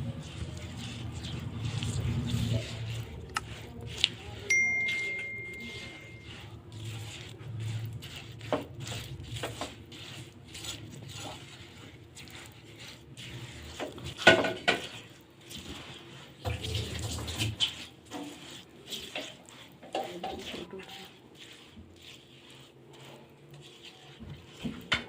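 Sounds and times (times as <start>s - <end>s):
kitchen utensils scraping and clicking: 0.0s - 25.0s.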